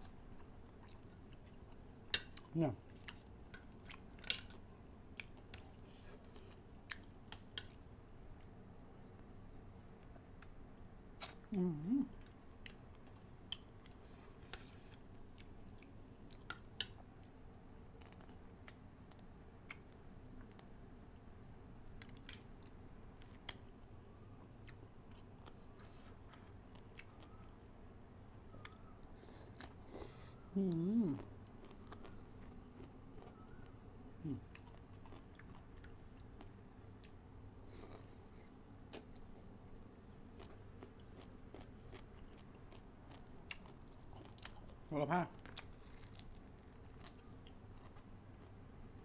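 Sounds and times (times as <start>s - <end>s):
close chewing with mouth clicks: 0.3s - 8.8s, 12.1s - 20.7s, 21.8s - 27.6s, 28.6s - 48.6s.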